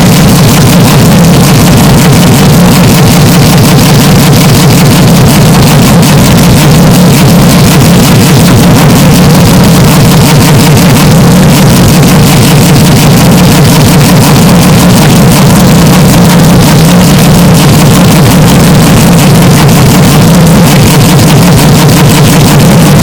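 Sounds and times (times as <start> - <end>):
distorted pulsing engine drone: 0.0 - 23.0.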